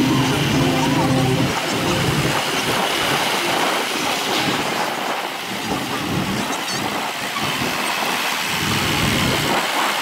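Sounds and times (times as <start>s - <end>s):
tractor engines running: 0.0s - 10.0s.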